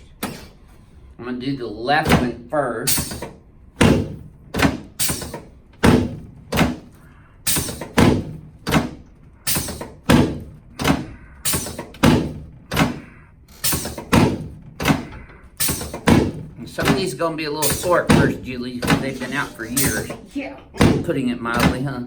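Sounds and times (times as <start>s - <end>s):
sharp thuds of chiropractic thrusts: 2.0s - 22.0s.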